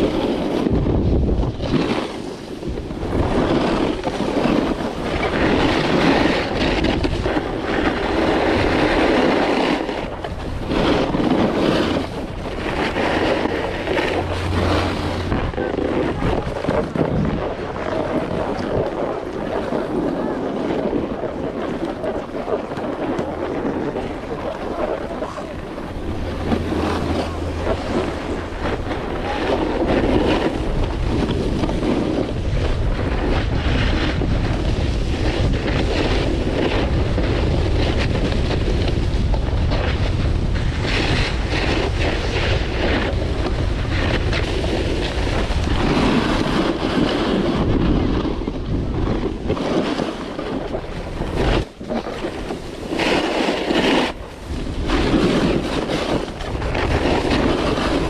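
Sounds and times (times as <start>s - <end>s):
skis scraping on hard snow: 0.0s - 58.0s
wind buffeting microphone: 0.0s - 58.0s.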